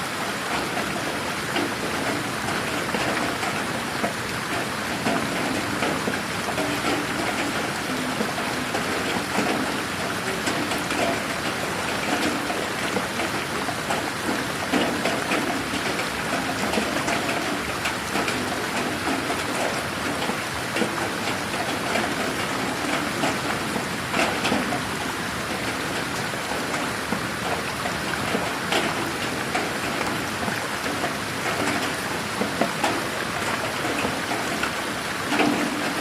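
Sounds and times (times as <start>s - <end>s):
raindrops ticking on surfaces: 0.0s - 36.0s
steady rain hiss: 0.0s - 36.0s.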